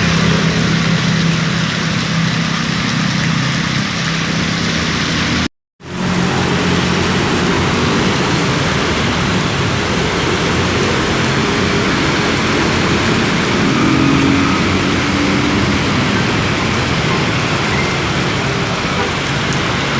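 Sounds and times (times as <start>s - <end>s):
strong wind and rain: 0.0s - 19.9s.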